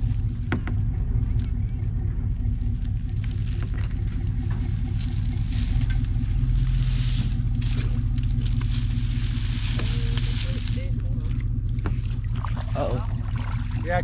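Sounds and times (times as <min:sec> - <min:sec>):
truck engine revving under load: 0:00.0 - 0:14.0.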